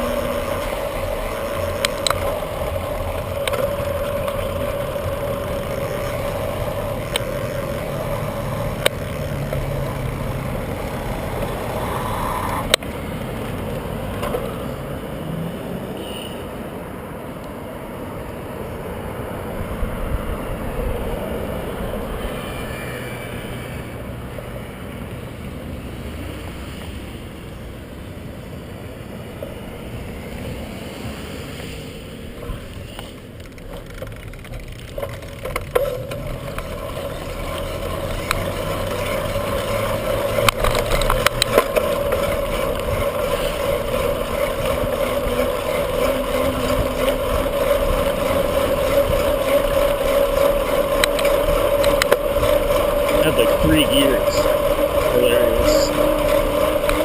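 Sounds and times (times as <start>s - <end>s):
bicycle road and wind noise: 0.0s - 57.0s.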